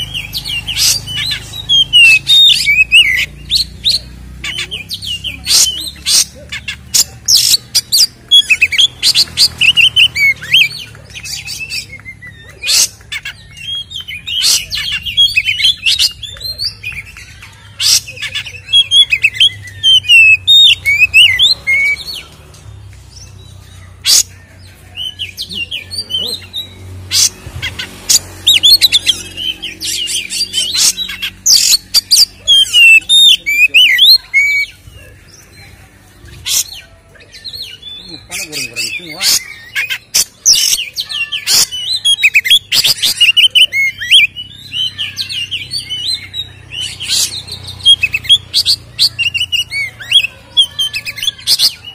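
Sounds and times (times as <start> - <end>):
magpie-robin singing: 0.0 - 51.9.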